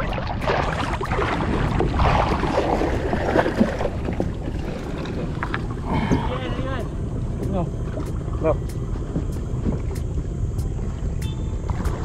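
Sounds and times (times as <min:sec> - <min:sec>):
shallow water sloshing and splashing: 0:00.0 - 0:12.0
wind rumble on microphone: 0:00.0 - 0:12.0.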